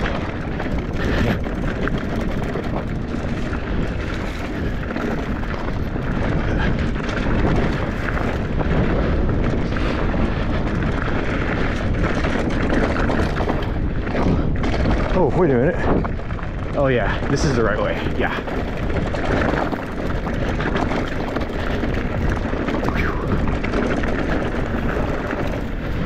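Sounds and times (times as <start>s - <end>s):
bike rattling: 0.0s - 26.0s
steady low rumble: 0.0s - 26.0s
tyres crunching over rocks: 0.0s - 26.0s.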